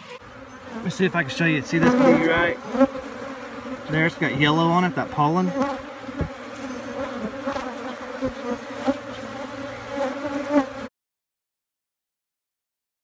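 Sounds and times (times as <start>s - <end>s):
honeybees buzzing: 0.0s - 10.9s.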